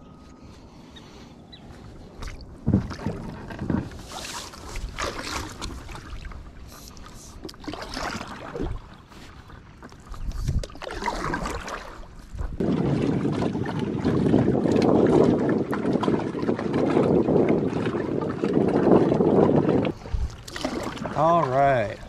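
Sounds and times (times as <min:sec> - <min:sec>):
paddle splashing in water: 0:02.2 - 0:22.0.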